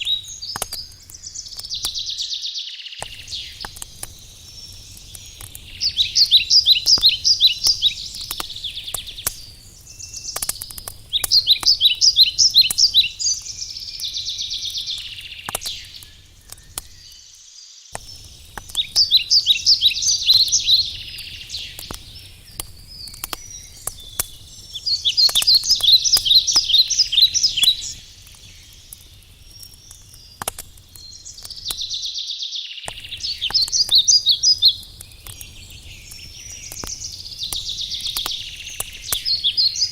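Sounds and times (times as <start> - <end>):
wood fire crackling and popping: 0.0 - 2.3, 3.0 - 17.2, 17.9 - 32.1, 32.8 - 39.9
songbird trilling: 0.0 - 17.2, 18.7 - 28.0, 31.1 - 34.8, 35.4 - 39.9.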